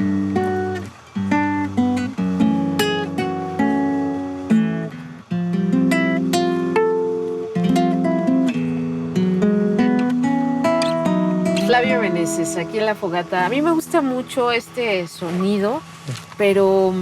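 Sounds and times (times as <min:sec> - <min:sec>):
guitar picked notes and chords: 0:00.0 - 0:17.0.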